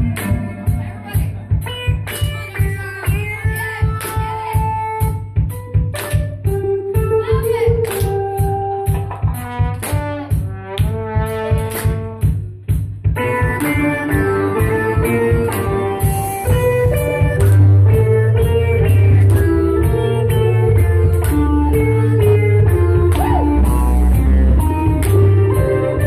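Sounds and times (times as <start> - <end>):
electric bass: 0.0 - 9.9, 10.8 - 26.0
drum kit: 0.0 - 26.0
electric guitar: 0.0 - 26.0.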